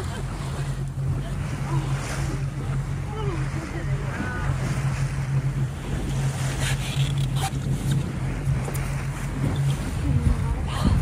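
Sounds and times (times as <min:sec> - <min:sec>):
outboard motor idling: 0:00.0 - 0:11.0
water noise: 0:00.0 - 0:11.0
wind: 0:00.0 - 0:11.0.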